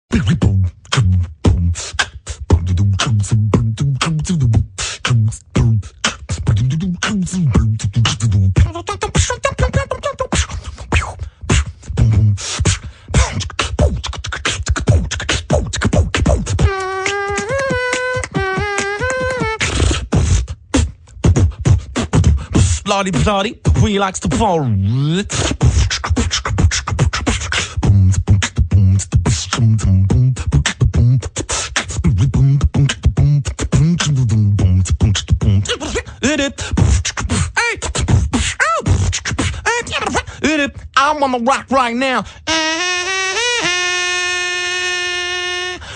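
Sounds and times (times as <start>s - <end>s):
person humming: 0.1s - 10.7s, 11.5s - 23.8s, 24.8s - 40.9s
person beatboxing: 0.1s - 43.8s.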